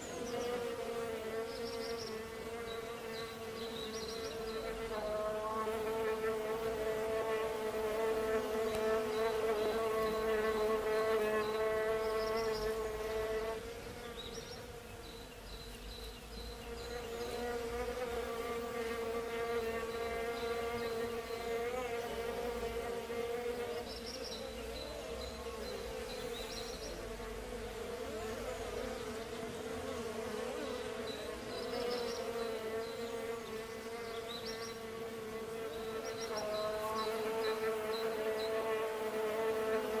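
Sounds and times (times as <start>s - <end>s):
bees buzzing: 0.0s - 40.0s.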